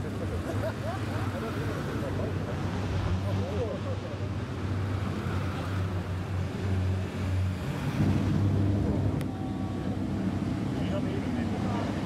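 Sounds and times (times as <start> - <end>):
deeper engine: 0.0 - 12.0.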